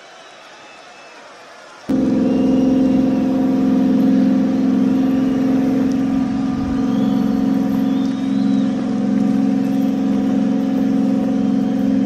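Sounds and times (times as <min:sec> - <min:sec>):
boat engine droning: 0:01.9 - 0:12.0.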